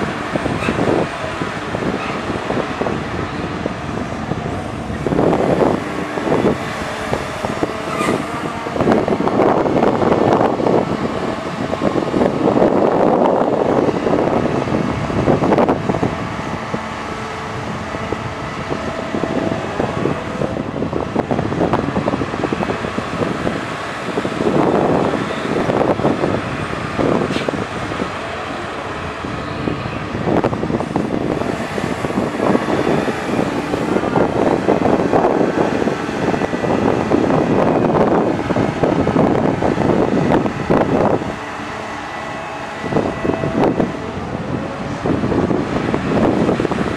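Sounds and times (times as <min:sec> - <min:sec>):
excavator diesel engine under load: 0:00.0 - 0:46.9.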